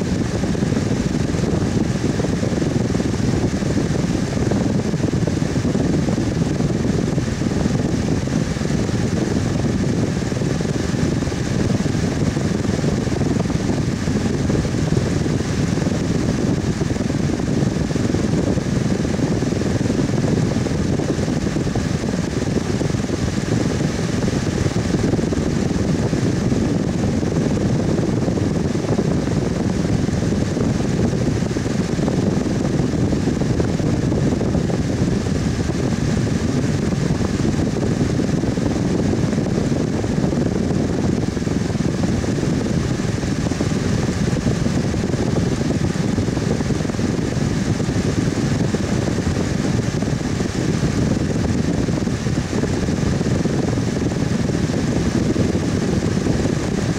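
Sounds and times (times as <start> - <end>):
electric fan humming: 0.0 - 56.9
faint steady whine: 0.0 - 56.9.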